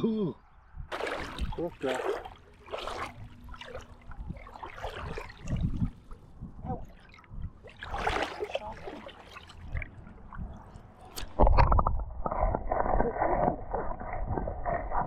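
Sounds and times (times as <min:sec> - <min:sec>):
water splashing from wading: 0:00.9 - 0:15.0.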